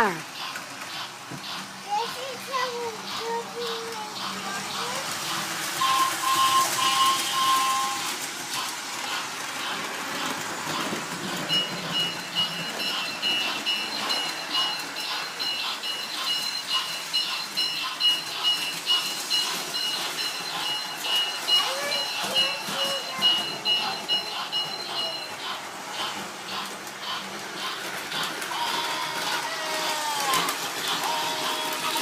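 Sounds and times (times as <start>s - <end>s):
toy train clattering on track: 0.0s - 32.0s.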